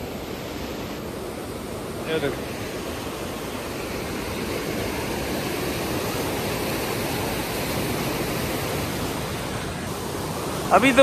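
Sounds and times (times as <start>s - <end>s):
floodwater rushing through stream: 0.0s - 11.0s.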